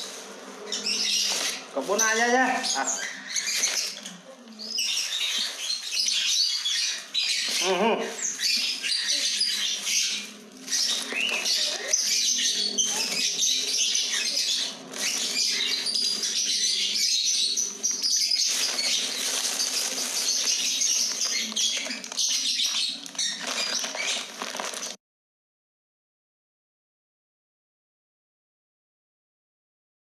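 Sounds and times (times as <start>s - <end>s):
plastic sack rustling: 0.0s - 4.2s, 4.8s - 25.0s
small birds chirping: 0.0s - 25.0s.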